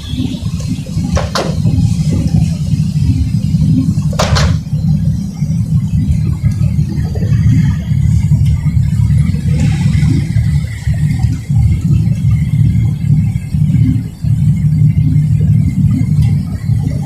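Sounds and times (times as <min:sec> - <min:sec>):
boat diesel engines rumbling: 0:00.0 - 0:17.0.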